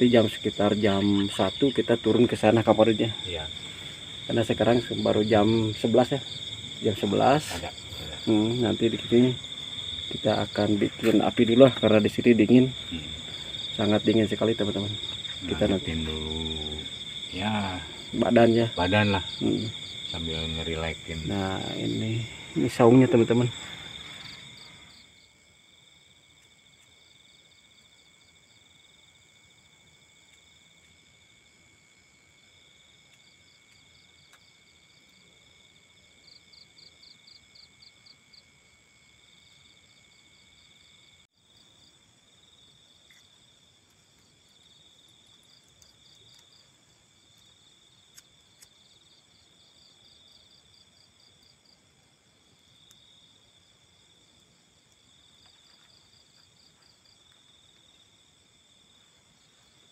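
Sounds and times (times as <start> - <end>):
fast pulsing insect chirp: 0.0 - 59.9
insects trilling: 0.0 - 59.9.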